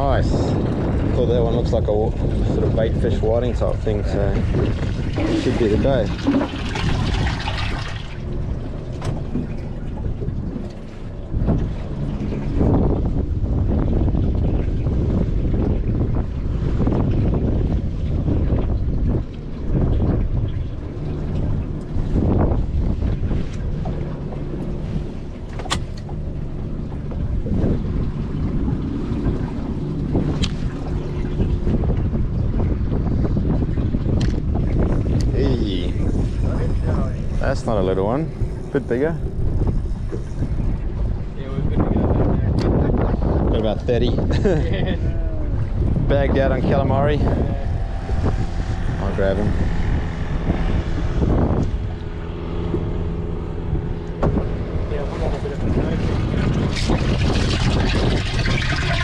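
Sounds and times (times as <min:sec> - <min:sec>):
water splashing and trickling: 0:00.0 - 0:42.2, 0:43.8 - 0:59.0
wind rumble on microphone: 0:00.0 - 0:59.0.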